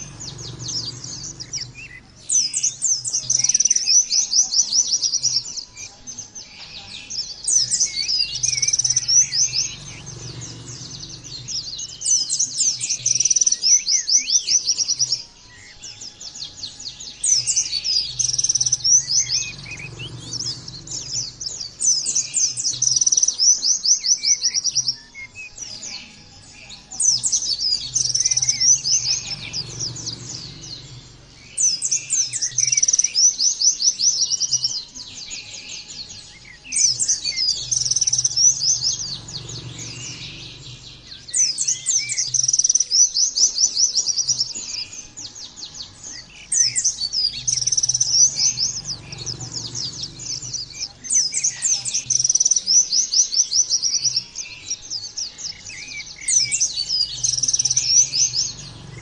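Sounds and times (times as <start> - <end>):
bird twittering trills: 0.0 - 59.0.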